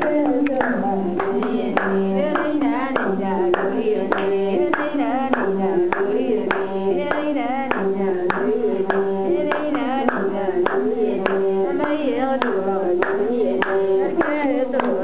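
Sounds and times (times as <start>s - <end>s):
hands clapping a beat: 0.0s - 15.0s
women singing: 0.0s - 15.0s.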